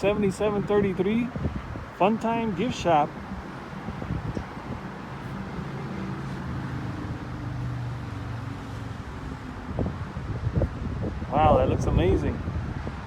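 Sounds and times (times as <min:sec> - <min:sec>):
vehicle engine humming: 0:00.0 - 0:12.9
wind on microphone: 0:00.0 - 0:13.0.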